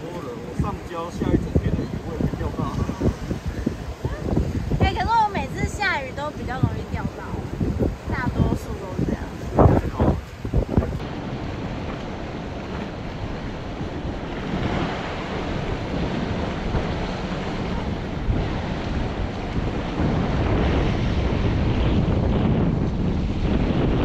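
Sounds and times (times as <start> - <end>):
surf washing against rocks: 0.0 - 24.0
wind buffeting microphone: 0.0 - 24.0.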